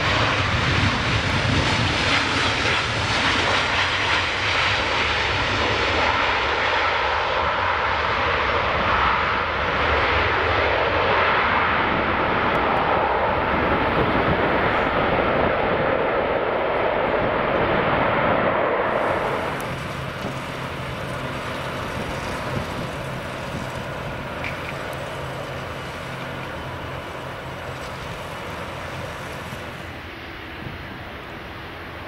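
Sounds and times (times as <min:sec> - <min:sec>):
airliner engines passing: 0:00.0 - 0:32.0.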